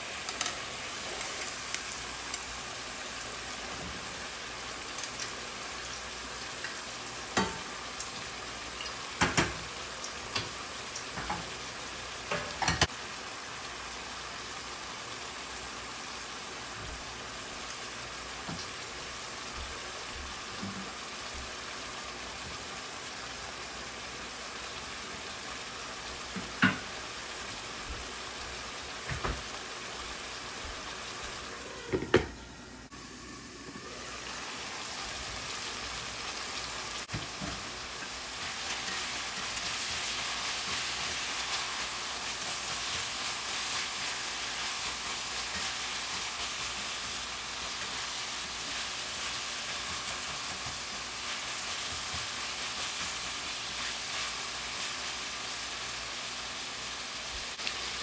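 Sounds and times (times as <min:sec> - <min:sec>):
food sizzling in pan: 0:00.0 - 0:58.0.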